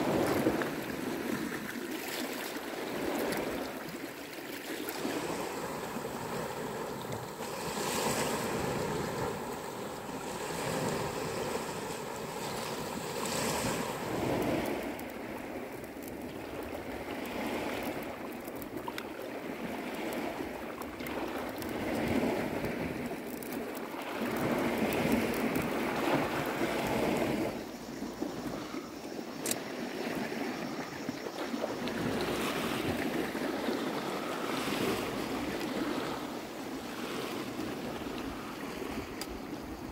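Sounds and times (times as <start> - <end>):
waves washing on stony shore: 0.0 - 39.9.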